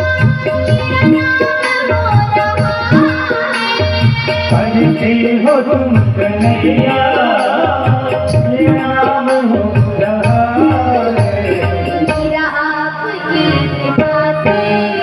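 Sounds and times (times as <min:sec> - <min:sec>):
devotional song with tabla: 0:00.0 - 0:15.0.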